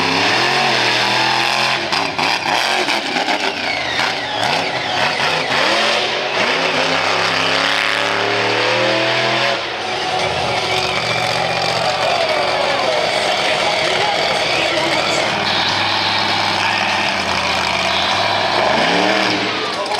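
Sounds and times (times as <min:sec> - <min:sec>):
monster truck engine revving: 0:00.0 - 0:19.9.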